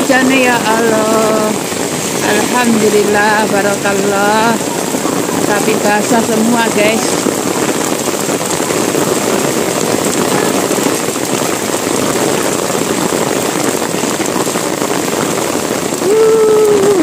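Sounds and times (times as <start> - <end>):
heavy rain on pavement: 0.0 - 17.0.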